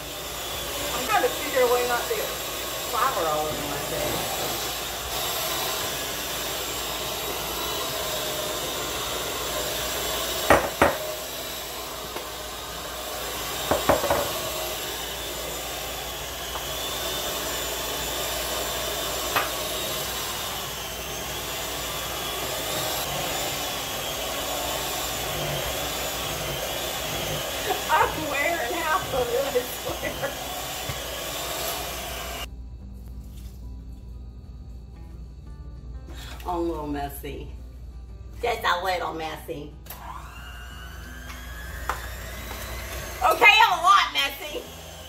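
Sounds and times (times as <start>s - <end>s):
electric hand mixer running: 0.0s - 32.5s, 39.9s - 45.0s.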